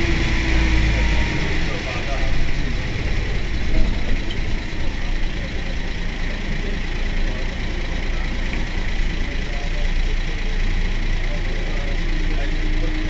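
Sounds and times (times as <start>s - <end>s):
bus engine idling: 0.0s - 13.0s
steady high whine: 0.0s - 13.0s.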